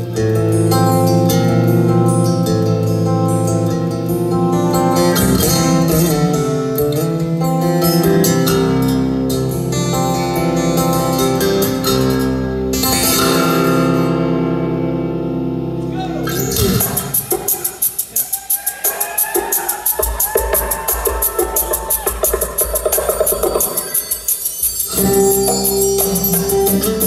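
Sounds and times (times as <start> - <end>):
amplified acoustic guitar playing: 0.0 - 18.2, 22.4 - 27.0.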